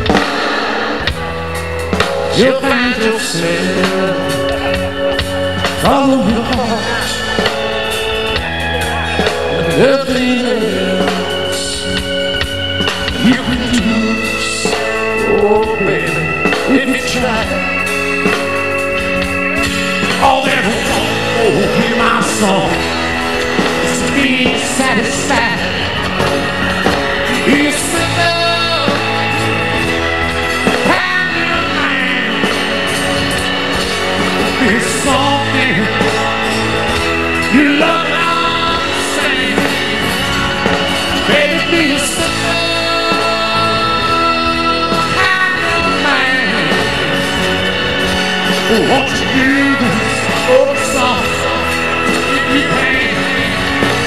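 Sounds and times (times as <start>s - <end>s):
bass: 0.0s - 54.0s
drums: 0.0s - 54.0s
guitars strumming: 0.0s - 54.0s
organ chords: 0.0s - 54.0s
man singing: 2.2s - 8.1s, 9.1s - 18.6s, 19.9s - 26.0s, 27.2s - 29.8s, 30.6s - 54.0s.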